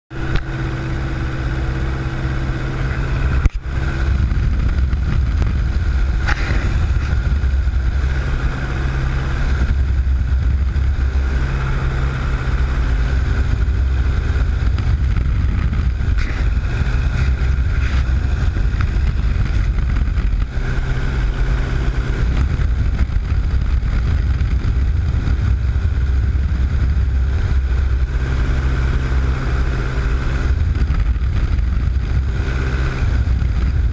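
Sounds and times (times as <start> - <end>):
propeller airplane engine drone: 0.0 - 33.9
rushing air: 0.1 - 33.9.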